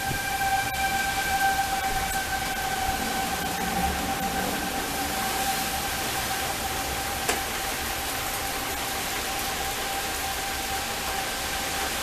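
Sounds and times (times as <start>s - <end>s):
distant warning siren: 0.0s - 12.0s
heavy rain hissing: 0.0s - 12.0s.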